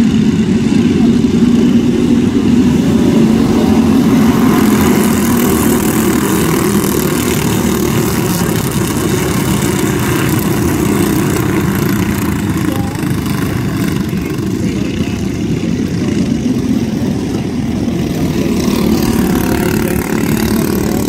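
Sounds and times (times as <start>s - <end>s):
small race car engines buzzing: 0.0s - 21.0s.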